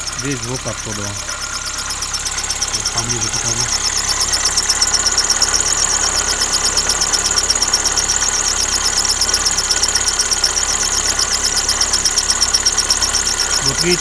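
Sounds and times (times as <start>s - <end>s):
belt chirping squeal: 0.0s - 14.0s
car engine idling: 0.0s - 14.0s.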